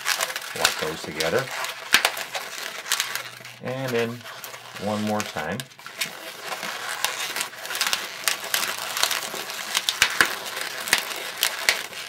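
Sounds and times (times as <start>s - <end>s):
balloon rubber creaking and clicking: 0.0s - 12.0s.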